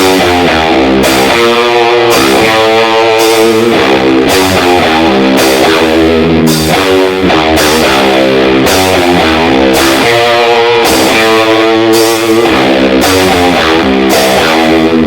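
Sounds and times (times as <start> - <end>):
electric guitar rock music: 0.0 - 15.0.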